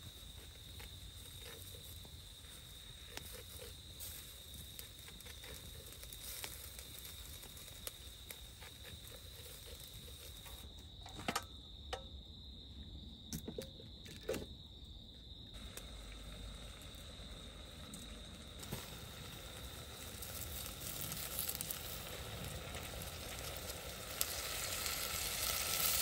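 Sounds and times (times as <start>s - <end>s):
high-pitched insect call: 0.0s - 26.0s.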